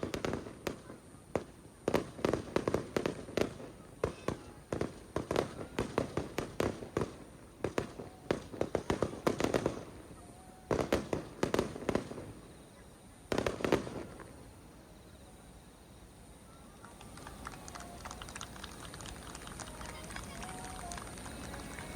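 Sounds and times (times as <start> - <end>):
fireworks bangs and crackles: 0.0 - 14.7, 15.9 - 21.9.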